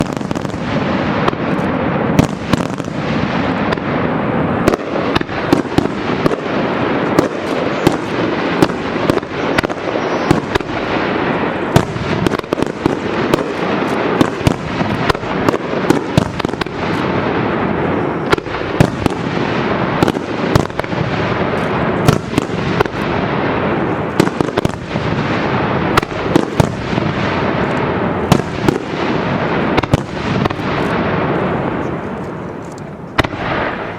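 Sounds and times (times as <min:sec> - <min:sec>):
fireworks bangs: 0:00.0 - 0:33.9
fireworks crackle and rumble: 0:00.0 - 0:33.9.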